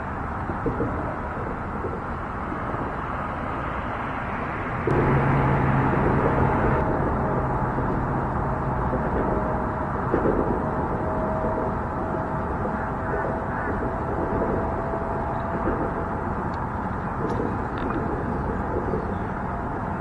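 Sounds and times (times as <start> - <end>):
highway traffic rumble: 0.0 - 20.0
vehicle passing: 0.9 - 20.0.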